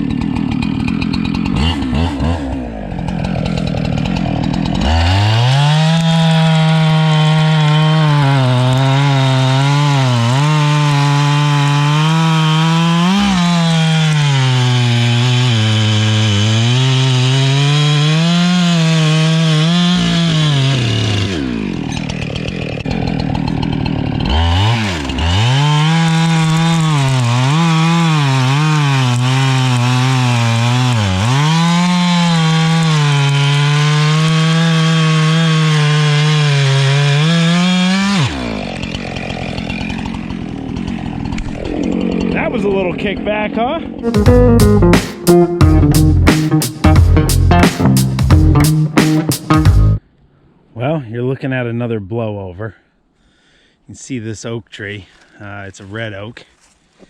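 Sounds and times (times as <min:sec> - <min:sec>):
chainsaw cutting a log: 0:00.0 - 0:50.0.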